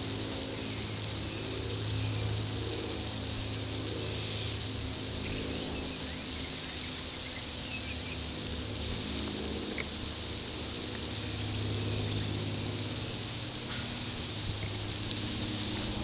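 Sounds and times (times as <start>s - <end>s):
steady low hum: 0.0s - 16.0s
faint high insect buzz: 0.1s - 16.0s.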